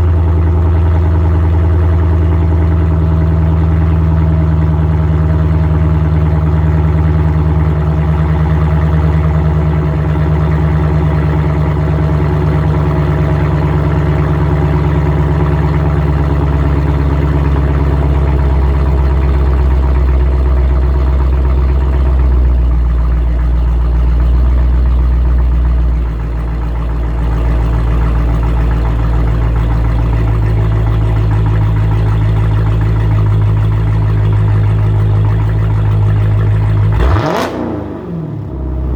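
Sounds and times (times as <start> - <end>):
car exhaust idling: 0.0 - 38.9.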